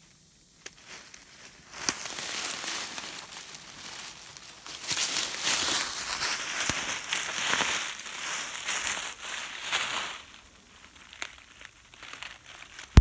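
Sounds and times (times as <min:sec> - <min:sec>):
footsteps crunching dry leaves: 0:00.6 - 0:13.0.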